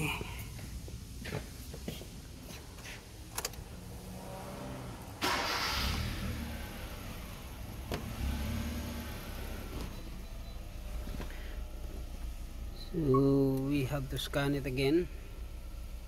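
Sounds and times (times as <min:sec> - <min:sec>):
car engine starting and idling: 0:03.1 - 0:16.0.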